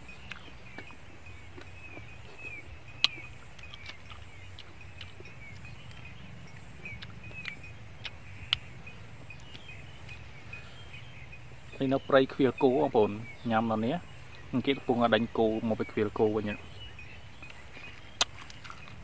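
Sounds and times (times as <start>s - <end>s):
bird chirping: 0.0s - 19.0s
low steady hum: 0.0s - 19.0s.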